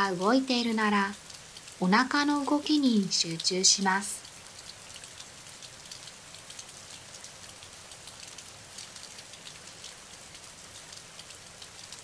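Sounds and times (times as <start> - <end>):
steady rainfall: 0.0 - 12.0.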